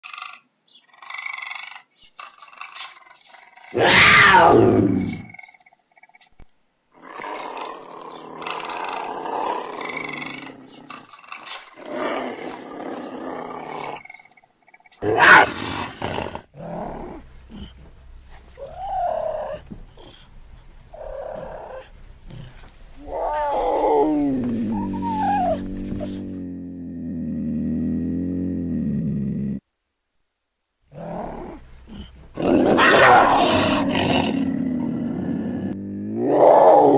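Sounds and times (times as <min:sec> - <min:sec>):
puma growling: 0:00.0 - 0:06.2, 0:06.9 - 0:29.6, 0:30.9 - 0:36.9
puma calling: 0:00.1 - 0:06.3, 0:07.0 - 0:20.3, 0:20.9 - 0:28.7, 0:30.9 - 0:36.9.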